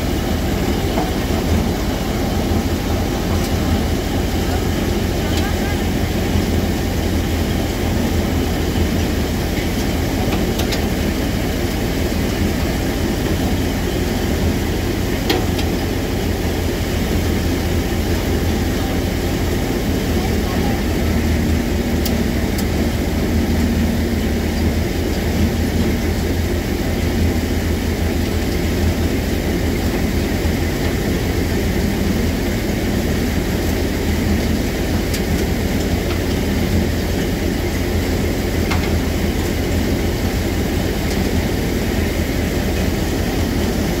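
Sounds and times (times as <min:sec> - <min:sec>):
thresher mechanical drone: 0:00.0 - 0:44.0.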